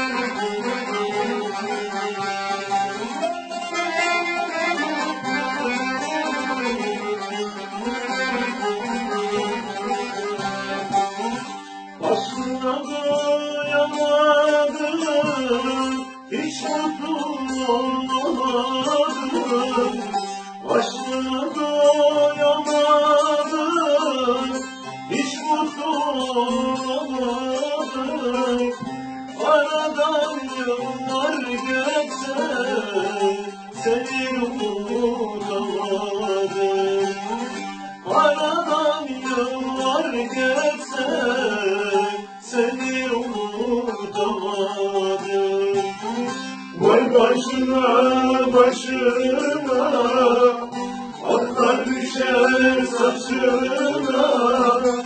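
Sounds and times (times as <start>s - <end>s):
plucked strings: 0.0s - 55.0s.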